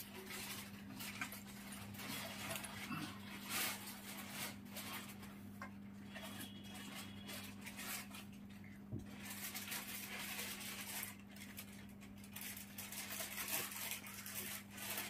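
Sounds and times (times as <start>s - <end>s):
handling and rustling: 0.0s - 15.0s.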